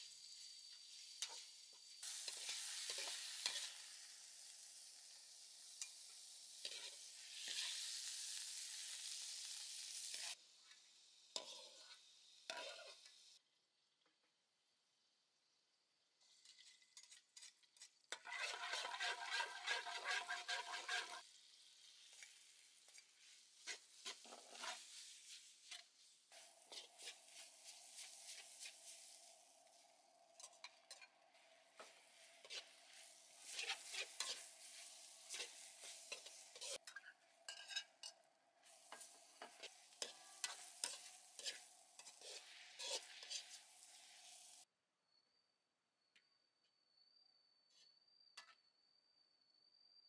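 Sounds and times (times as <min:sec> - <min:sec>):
food sizzling in hot oil: 0:00.0 - 0:13.9, 0:16.0 - 0:44.7.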